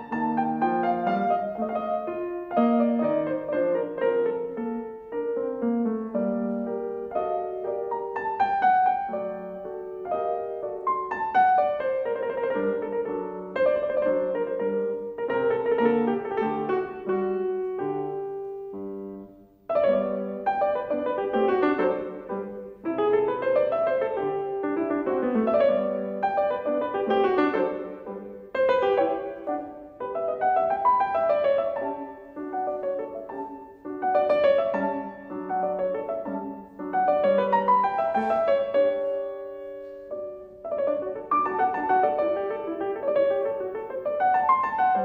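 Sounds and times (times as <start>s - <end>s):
solo classical piano: 0.0s - 45.0s.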